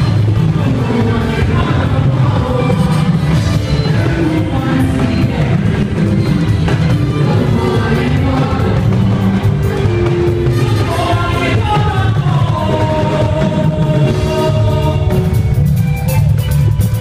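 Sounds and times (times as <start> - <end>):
voices singing together: 0.0 - 15.5
instrumental backing with heavy bass: 0.0 - 17.0.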